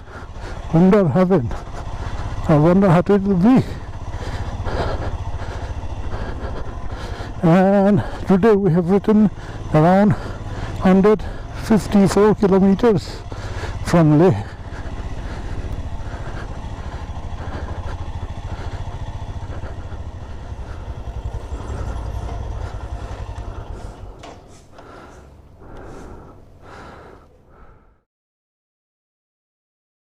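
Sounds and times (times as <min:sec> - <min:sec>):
motorcycle engine idling: 0:00.0 - 0:28.0
scattered quiet sounds: 0:00.1 - 0:27.8.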